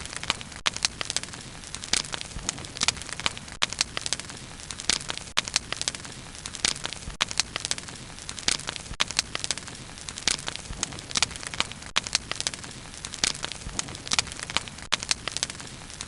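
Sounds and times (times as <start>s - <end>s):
wood crackling and popping: 0.0s - 16.0s.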